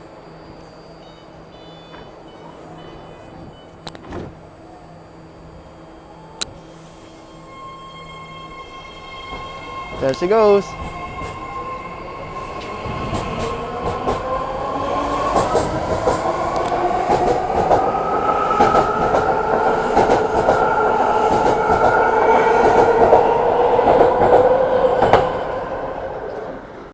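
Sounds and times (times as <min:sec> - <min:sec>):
train drive whine: 0:00.0 - 0:26.9.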